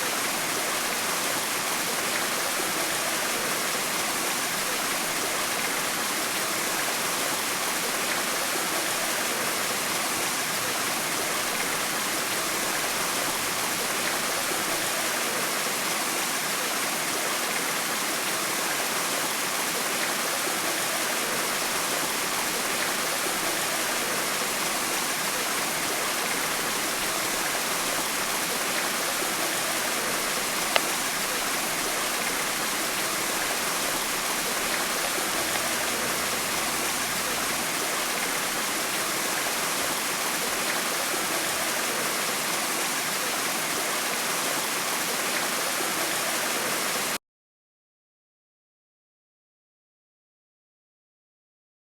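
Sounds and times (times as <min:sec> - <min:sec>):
flowing water rushing: 0:00.0 - 0:47.2.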